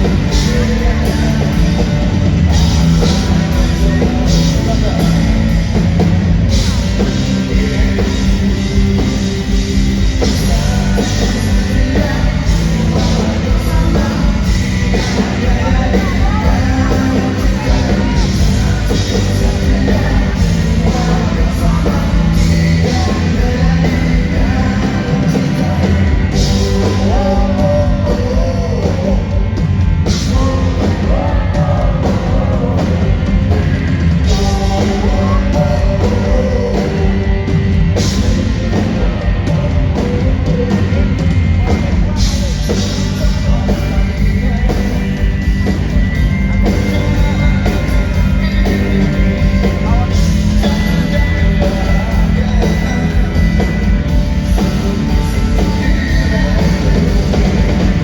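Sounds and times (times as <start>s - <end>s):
rock band playing live: 0.0s - 58.0s
sung lead vocal: 0.0s - 58.0s.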